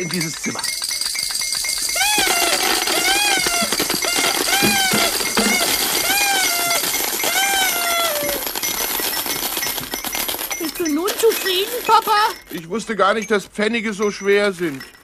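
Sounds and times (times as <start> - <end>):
rattling machine clatter: 0.0 - 15.0.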